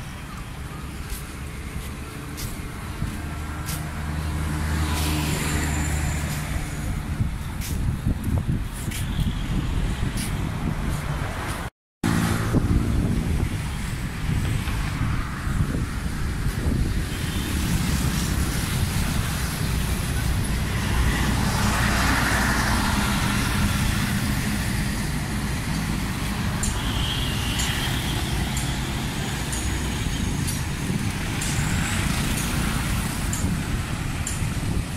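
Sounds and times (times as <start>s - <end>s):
cars and motorbikes driving past: 0.0s - 34.9s.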